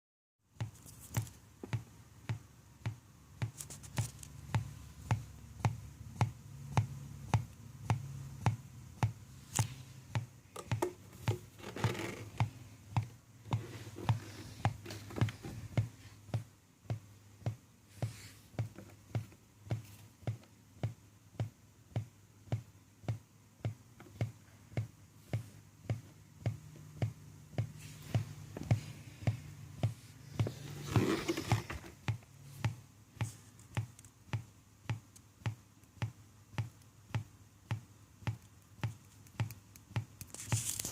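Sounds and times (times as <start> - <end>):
faint steady hum: 0.5 - 40.9.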